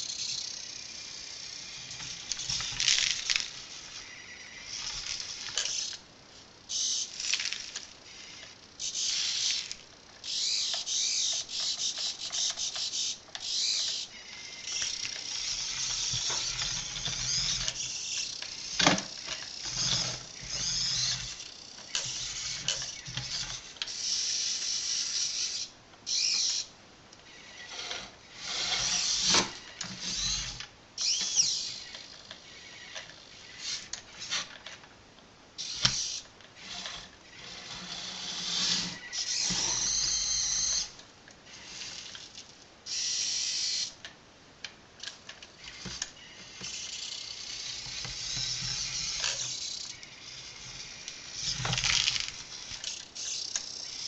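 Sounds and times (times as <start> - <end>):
toy tractor motor whirring: 0.0 - 34.7, 35.6 - 44.0, 45.0 - 54.0.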